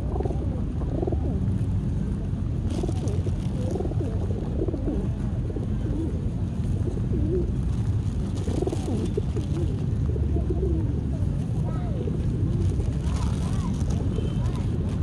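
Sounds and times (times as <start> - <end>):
pigeons cooing: 0.0 - 1.6, 2.7 - 14.7
steady low rumble: 0.0 - 15.0.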